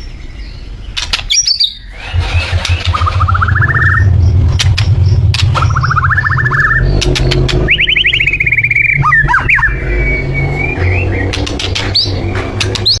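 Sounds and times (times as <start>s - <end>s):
bird singing trills and whistles: 0.0s - 13.0s
sharp clicks: 1.0s - 9.7s, 10.8s - 13.0s
low hum: 1.8s - 13.0s.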